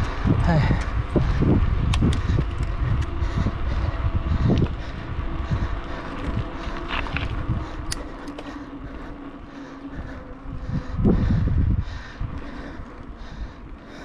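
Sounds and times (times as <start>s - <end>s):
bicycle tyre rumble: 0.0s - 14.0s
wind buffeting microphone: 0.0s - 14.0s.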